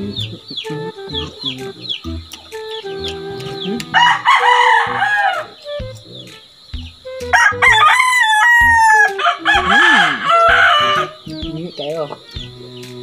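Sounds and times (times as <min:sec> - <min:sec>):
roosters crowing: 0:00.0 - 0:13.0.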